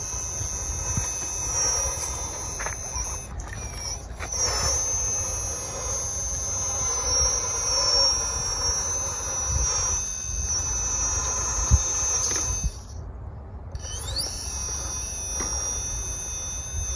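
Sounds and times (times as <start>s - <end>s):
electric motor whine: 0.0s - 16.9s.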